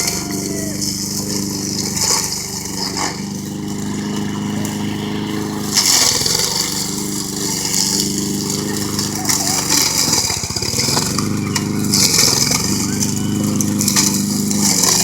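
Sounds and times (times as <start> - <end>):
grass hissing: 0.0 - 15.0
lawnmower engine running under load: 0.0 - 15.0.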